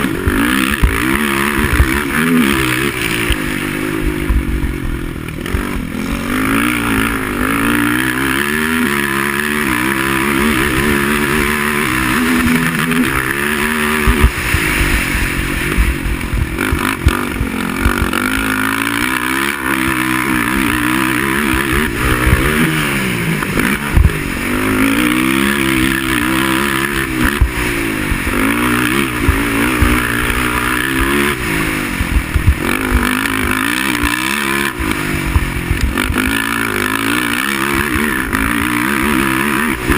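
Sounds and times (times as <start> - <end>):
quad engine revving: 0.0 - 39.9
thumps and clatter over rough ground: 0.0 - 39.9.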